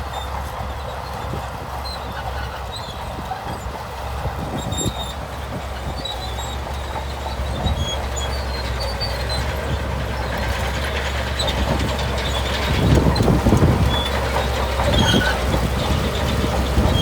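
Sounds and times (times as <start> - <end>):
bulldozer diesel engine droning: 0.0 - 17.0
tracks rattling and squeaking: 0.0 - 17.0.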